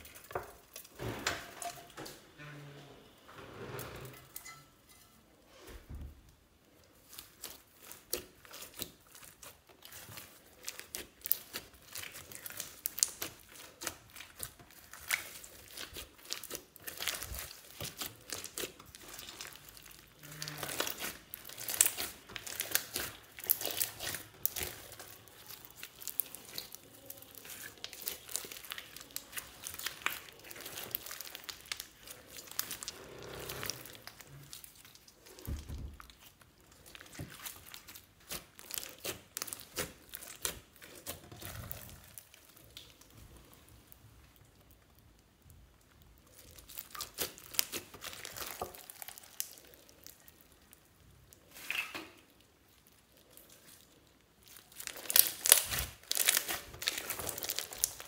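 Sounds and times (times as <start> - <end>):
hands squeezing crunchy slime: 6.7 - 58.0.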